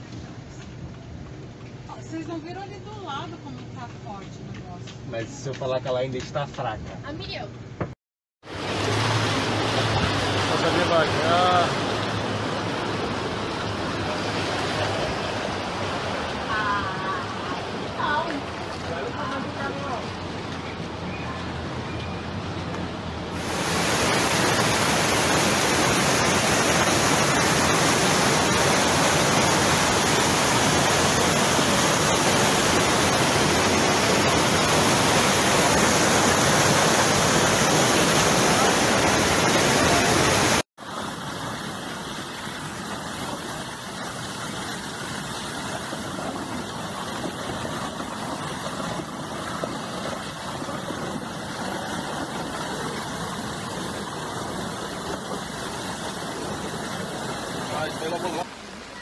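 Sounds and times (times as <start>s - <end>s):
floodwater rushing: 8.4s - 21.8s, 22.4s - 59.0s.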